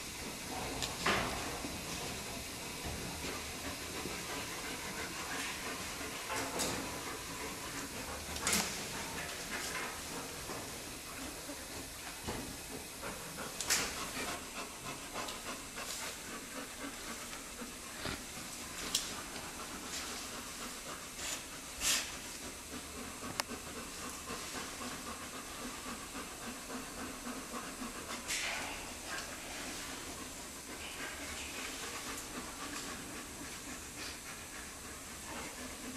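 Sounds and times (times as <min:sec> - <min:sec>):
bears panting: 0:00.0 - 0:35.9.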